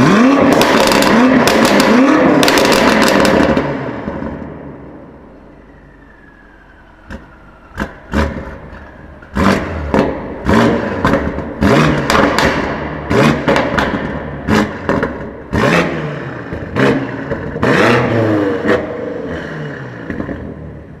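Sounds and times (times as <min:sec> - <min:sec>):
exhaust cracks: 0:00.0 - 0:19.0
car engine revving: 0:00.0 - 0:21.0.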